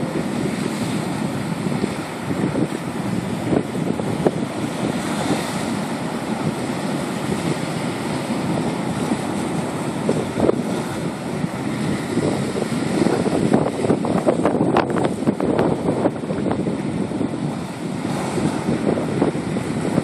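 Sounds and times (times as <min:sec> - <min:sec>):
surf breaking against rocks: 0:00.0 - 0:20.0
wind buffeting microphone: 0:00.0 - 0:20.0.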